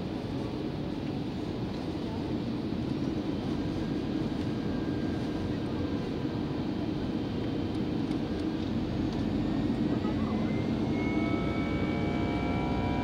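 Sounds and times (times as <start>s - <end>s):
airplane cabin low rumble: 0.0s - 13.0s.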